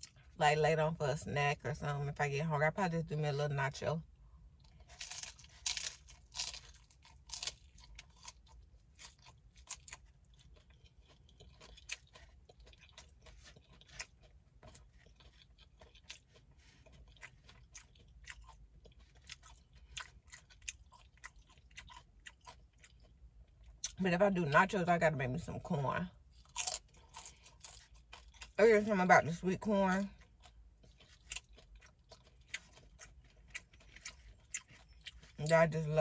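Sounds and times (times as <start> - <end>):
chewing and crunching taco: 0.0 - 0.4, 2.9 - 36.0.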